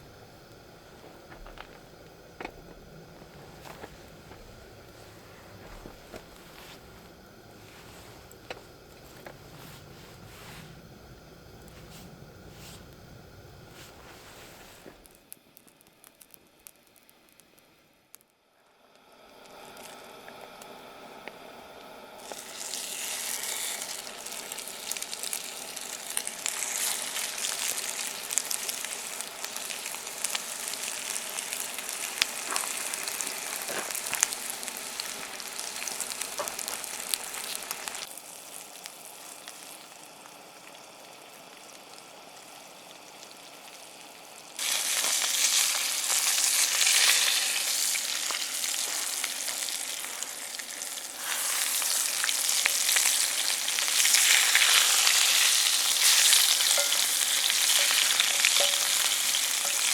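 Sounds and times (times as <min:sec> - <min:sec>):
food sizzling in a pan: 0:00.0 - 0:17.7, 0:19.0 - 0:59.9.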